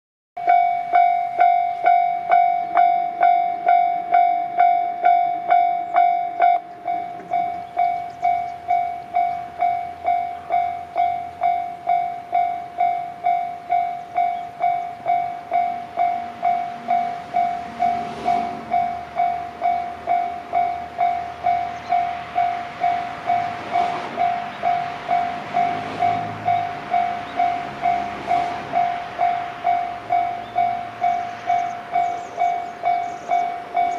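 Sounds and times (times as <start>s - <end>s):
electric train running noise: 0.4s - 33.9s
level crossing warning bell: 0.4s - 33.9s
wheels clacking over rail joints: 0.4s - 33.9s.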